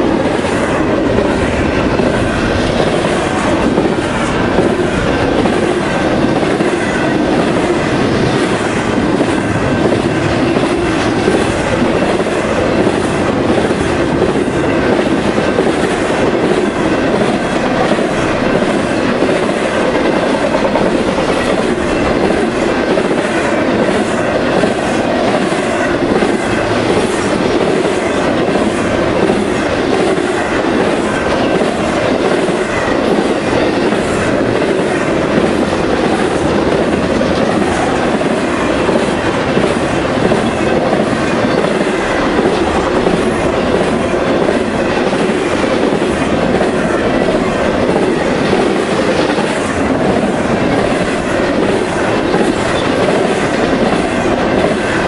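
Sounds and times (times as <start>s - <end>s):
freight train rumbling past: 0.0s - 55.0s
wheels clickety-clack on rail joints: 0.0s - 55.0s.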